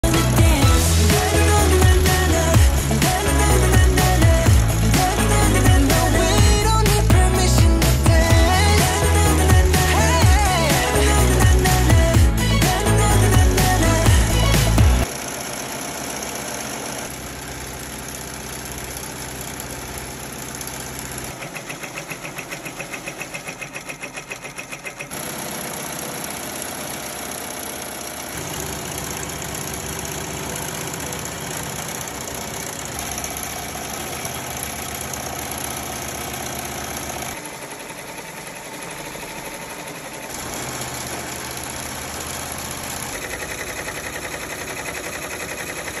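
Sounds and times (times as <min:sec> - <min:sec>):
embroidery machine stitching: 0:00.0 - 0:46.0.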